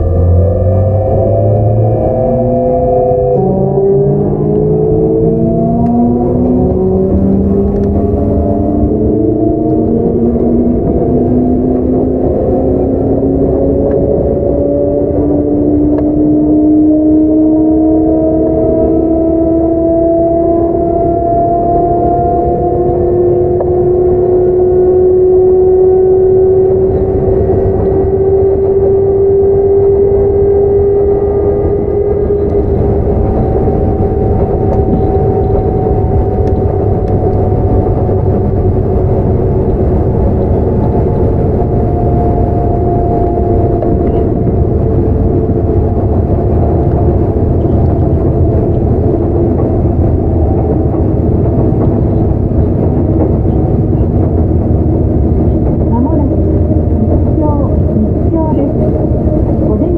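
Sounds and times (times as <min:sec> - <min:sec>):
train motor whine: 0:00.0 - 0:59.9
train wheels rumbling on rails: 0:00.0 - 0:59.9.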